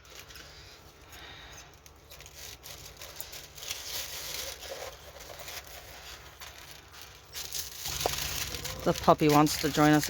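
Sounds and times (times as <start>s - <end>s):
canvas and plastic packaging crinkling: 0.0s - 10.0s.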